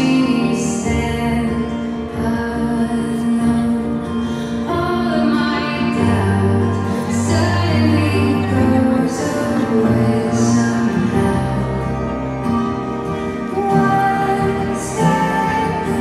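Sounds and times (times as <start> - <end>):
person singing: 0.0 - 16.0
slow song with held instrumental notes: 0.0 - 16.0.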